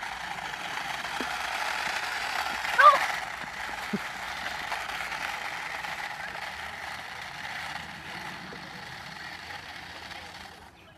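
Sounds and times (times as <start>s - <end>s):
toy car motor whirring: 0.0s - 10.9s.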